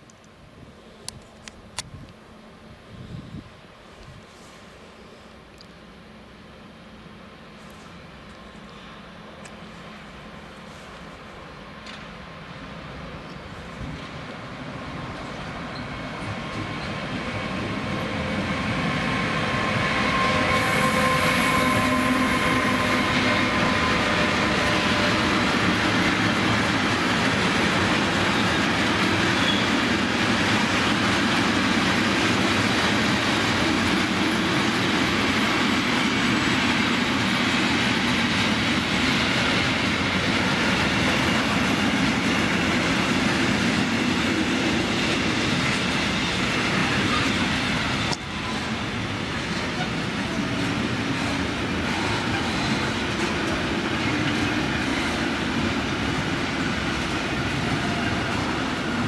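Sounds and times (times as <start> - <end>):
freight train rolling past: 2.2 - 59.0.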